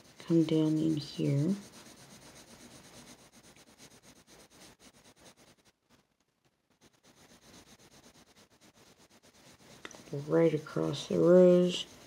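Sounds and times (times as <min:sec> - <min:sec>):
pencil strokes scratching on paper: 0:00.0 - 0:12.0.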